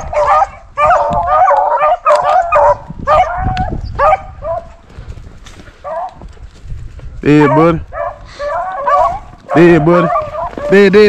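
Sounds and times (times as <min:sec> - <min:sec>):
hounds baying and yelping: 0:00.0 - 0:04.9, 0:05.5 - 0:06.4, 0:07.2 - 0:11.0.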